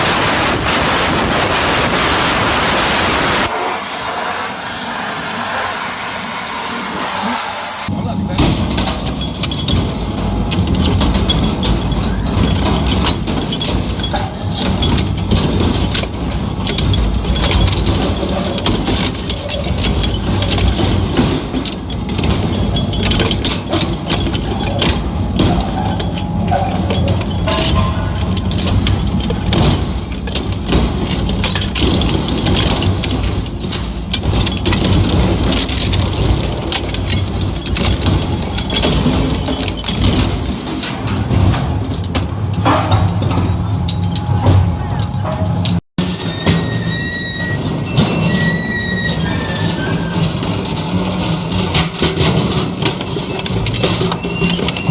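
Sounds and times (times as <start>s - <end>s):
metallic clanking and rattling: 7.8s - 54.9s.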